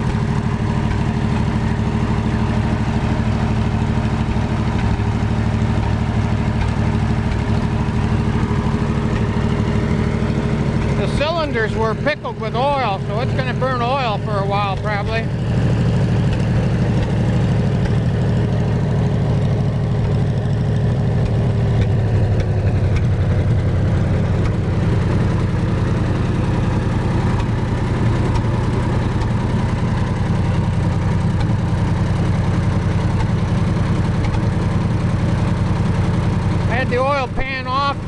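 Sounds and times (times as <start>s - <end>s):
welder engine running: 0.0s - 38.0s.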